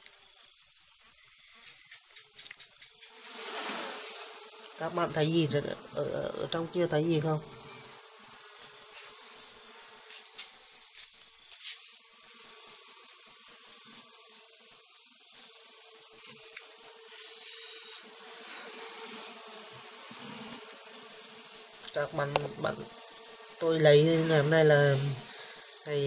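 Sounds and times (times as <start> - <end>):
cricket chirping: 0.0 - 26.0
bee colony humming: 0.2 - 26.0.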